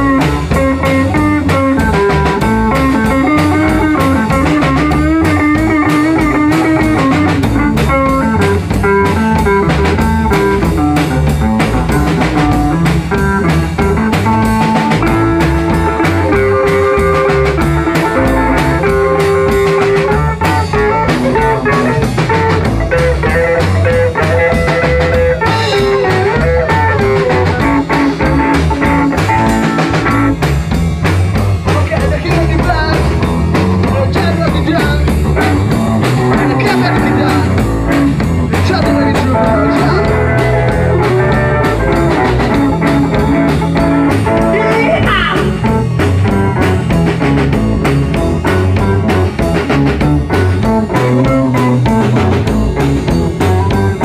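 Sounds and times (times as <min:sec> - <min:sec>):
drum kit beat: 0:00.0 - 0:54.0
rockabilly guitar lead lines: 0:00.0 - 0:54.0.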